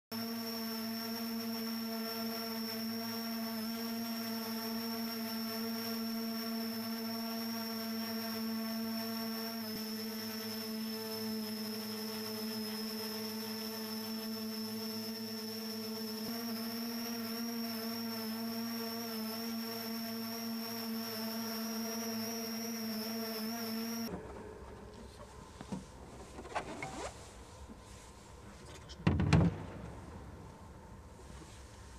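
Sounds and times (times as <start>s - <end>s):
electric rotors humming and whining: 0.2s - 25.9s.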